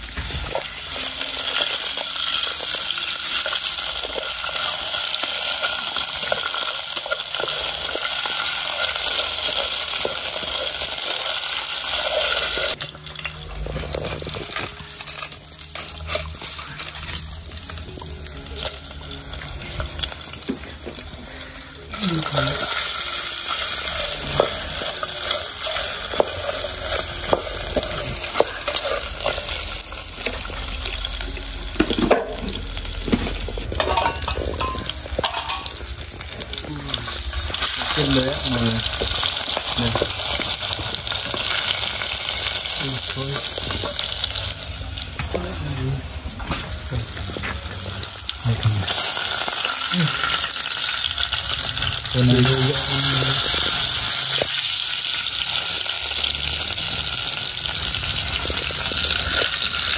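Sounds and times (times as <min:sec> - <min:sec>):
food sizzling in a metal pot: 0:00.0 - 0:59.9.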